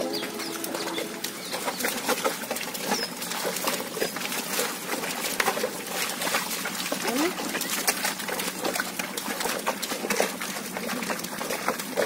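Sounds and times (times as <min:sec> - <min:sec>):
hooves and feet squelching in mud: 0:00.0 - 0:12.0.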